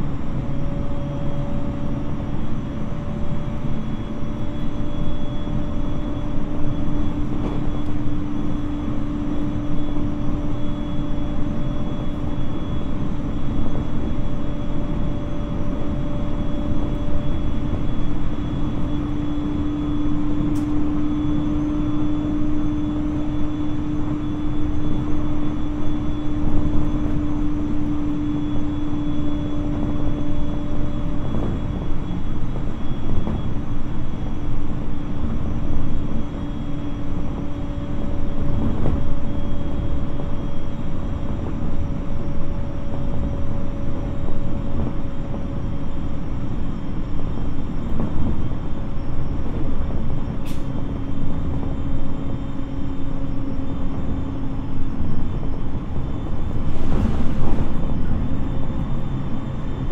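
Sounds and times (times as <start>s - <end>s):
train wheels rumbling on rails: 5.5s - 59.9s.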